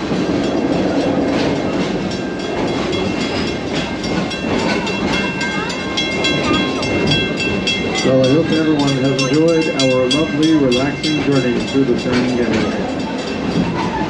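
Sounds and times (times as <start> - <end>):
train rumbling along track: 0.0 - 14.0
wheels clicking over rails: 0.0 - 14.0.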